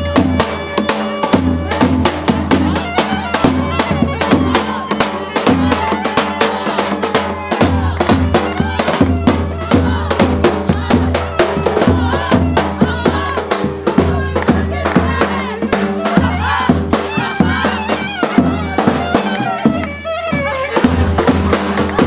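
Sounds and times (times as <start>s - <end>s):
fast steady drum beat: 0.0s - 22.0s.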